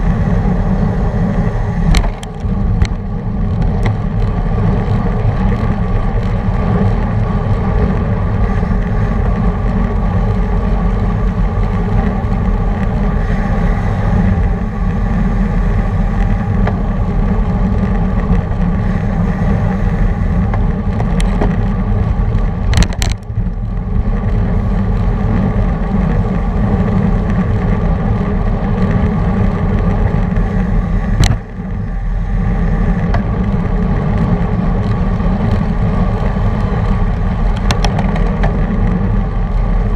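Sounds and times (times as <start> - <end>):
bike tyres humming on asphalt: 0.0 - 39.9
wind on microphone: 0.0 - 39.9.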